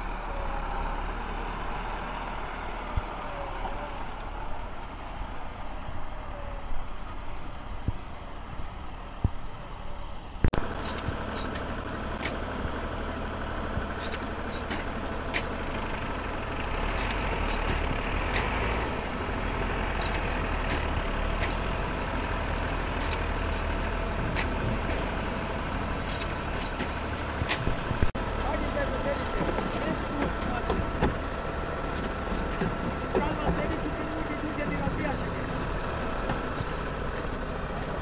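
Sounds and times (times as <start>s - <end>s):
diesel tractor engine running: 0.0s - 38.0s.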